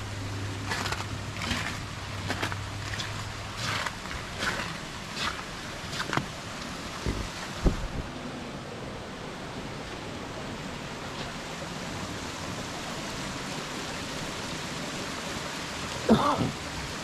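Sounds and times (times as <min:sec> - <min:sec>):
small waterfall splashing: 0:00.0 - 0:08.2, 0:09.2 - 0:17.0.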